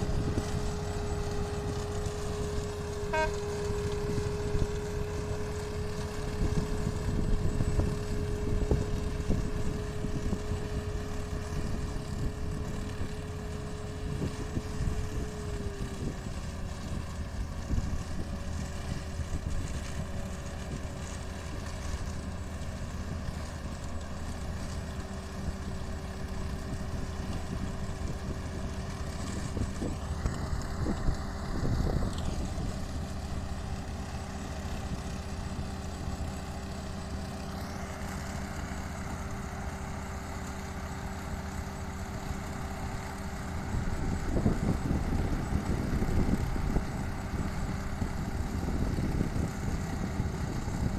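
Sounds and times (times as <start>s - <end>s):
harvester machinery rumbling and whining: 0.0s - 50.9s.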